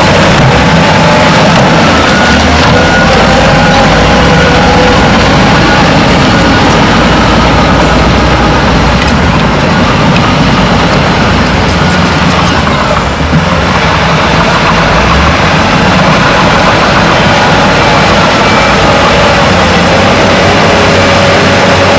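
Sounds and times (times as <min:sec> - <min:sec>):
diesel engine running: 0:00.0 - 0:21.9
mechanical noise: 0:00.0 - 0:21.9.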